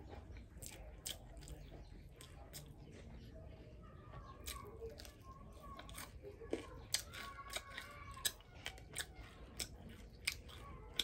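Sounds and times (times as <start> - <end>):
person chewing with smacking clicks: 0.2 - 2.8, 4.4 - 11.0.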